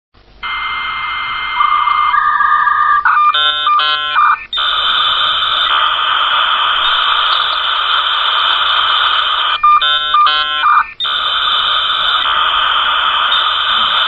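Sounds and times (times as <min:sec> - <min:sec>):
electronic tones: 0:00.4 - 0:14.0.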